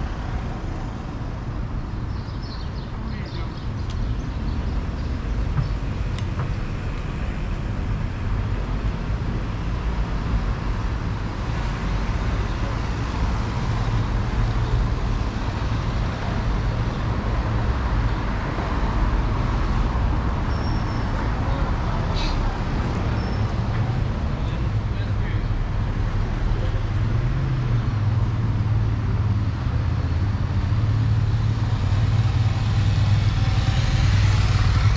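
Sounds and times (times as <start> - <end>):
road traffic rumble: 0.0 - 34.9.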